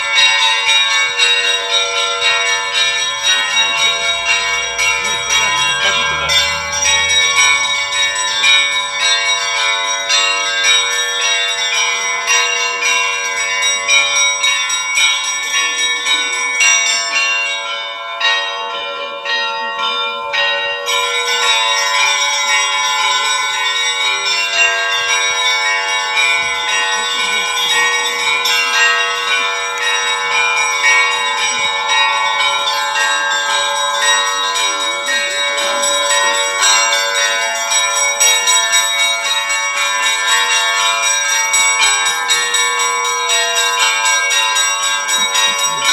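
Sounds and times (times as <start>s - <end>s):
large church bells ringing: 0.0s - 45.9s
rapid small bells ringing: 0.0s - 45.9s.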